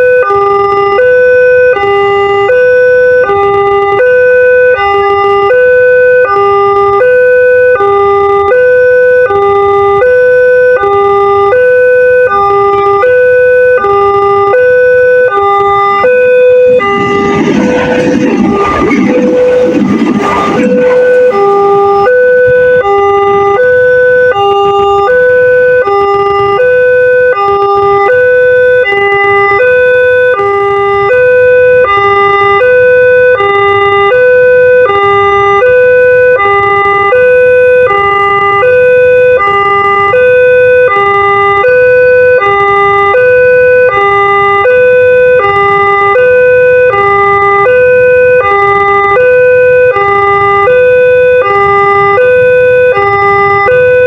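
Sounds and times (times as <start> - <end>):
two-tone level crossing siren: 0.0 - 54.0.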